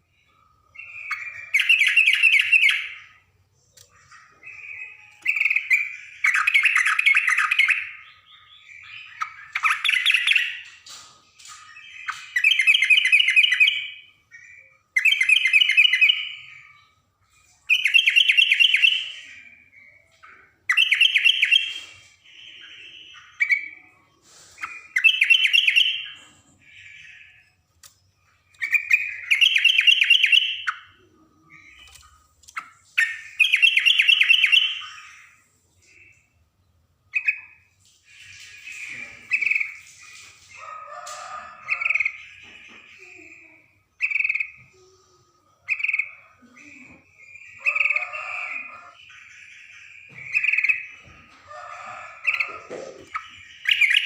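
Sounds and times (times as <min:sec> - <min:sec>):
bird chattering song: 0:00.2 - 0:36.4, 0:37.1 - 0:54.0.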